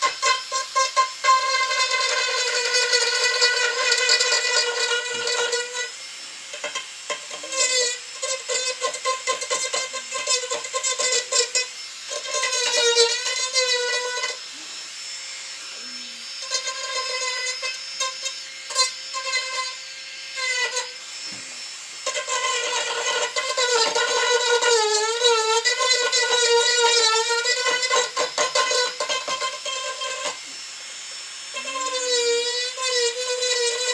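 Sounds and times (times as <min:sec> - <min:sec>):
rotary tool burr whining on wood: 0:00.0 - 0:33.9.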